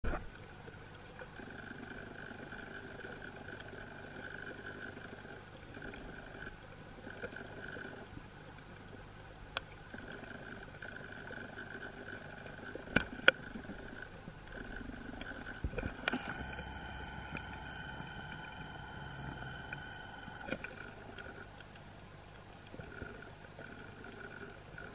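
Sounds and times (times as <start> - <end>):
faint steady hum: 0.0 - 24.9
underwater water wash: 0.0 - 24.9.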